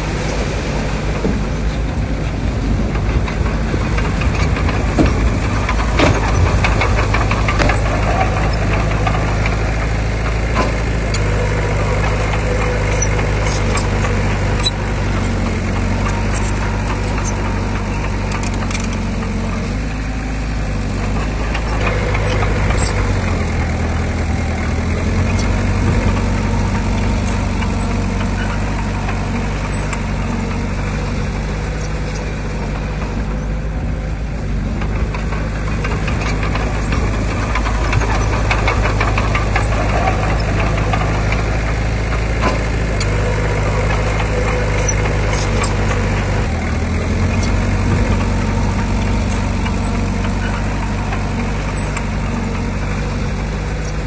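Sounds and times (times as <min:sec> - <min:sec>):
heavy diesel engine running: 0:00.0 - 0:54.0
metal clanks: 0:01.2 - 0:54.0.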